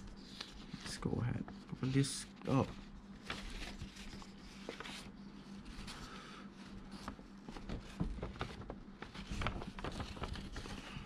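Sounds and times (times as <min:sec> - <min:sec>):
paper crackling and rustling: 0:00.0 - 0:11.0.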